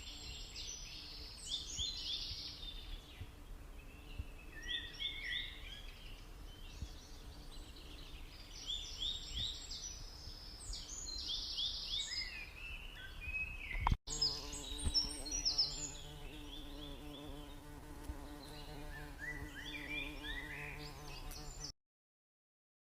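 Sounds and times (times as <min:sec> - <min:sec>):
small birds chirping: 0:00.0 - 0:21.7.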